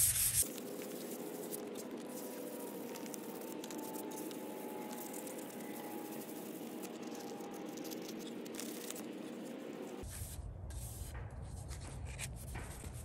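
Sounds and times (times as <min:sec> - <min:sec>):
sandpaper rubbing on wood: 0:00.0 - 0:11.2.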